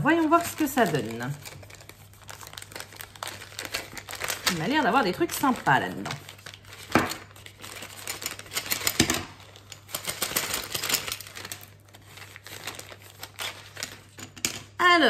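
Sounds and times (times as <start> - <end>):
plastic pouch crinkling: 0.0 - 14.3.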